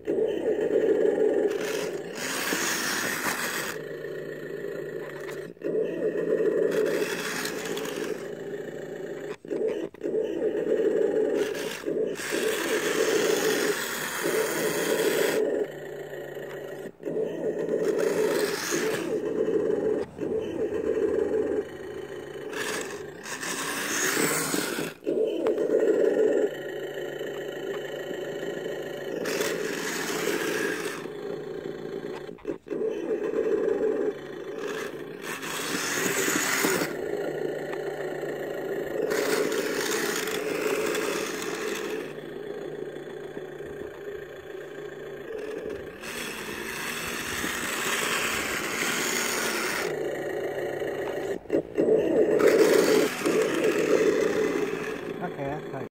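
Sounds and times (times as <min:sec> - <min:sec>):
electric motor whine: 0:00.0 - 0:55.9.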